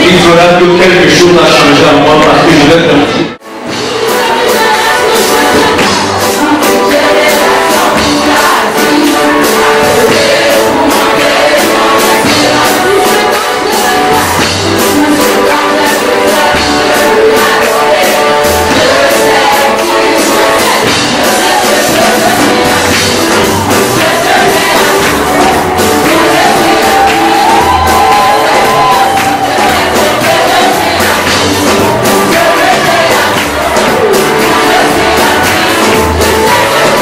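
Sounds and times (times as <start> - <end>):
band accompaniment: 0.0 - 37.0
choir singing gospel: 0.0 - 37.0
steady percussion beat: 3.5 - 37.0.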